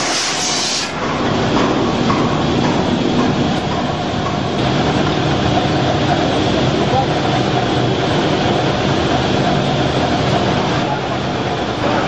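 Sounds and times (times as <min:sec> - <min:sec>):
forge machinery rumble: 0:00.0 - 0:12.0.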